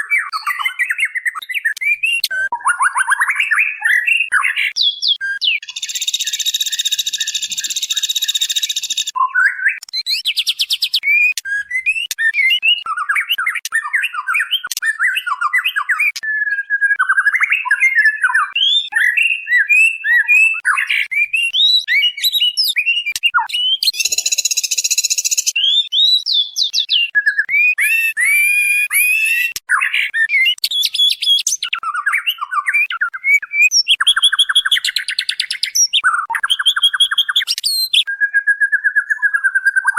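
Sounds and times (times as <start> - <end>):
bird whistled song: 0.0 - 39.9.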